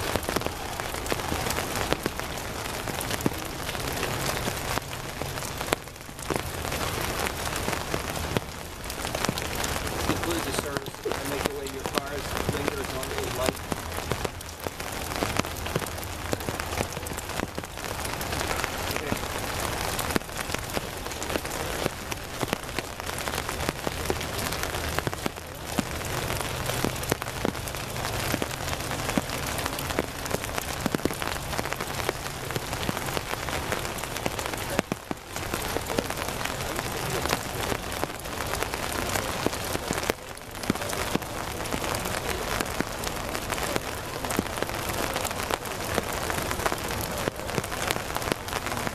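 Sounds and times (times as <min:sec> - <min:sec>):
rain on umbrellas and ground: 0:00.0 - 0:48.9.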